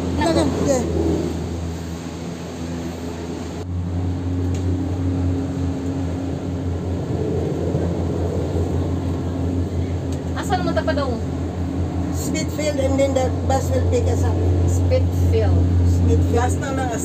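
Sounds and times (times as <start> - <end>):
cableway machinery humming: 0.0 - 17.0.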